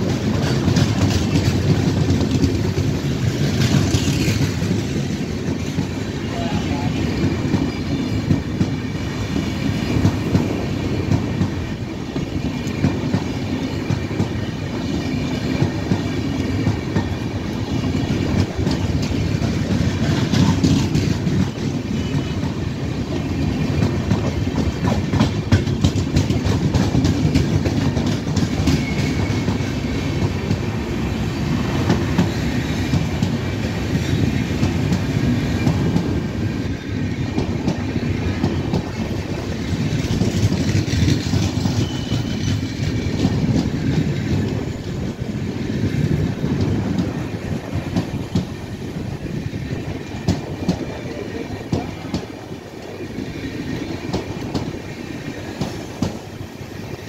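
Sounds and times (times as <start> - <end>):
wheels clacking over rail joints: 0.0 - 56.5
train wheels rumbling on rails: 0.0 - 57.0.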